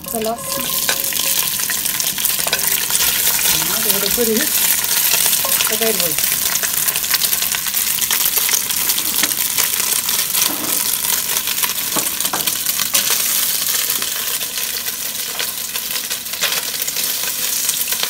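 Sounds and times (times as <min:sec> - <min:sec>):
bacon sizzling in hot oil: 0:00.0 - 0:18.0.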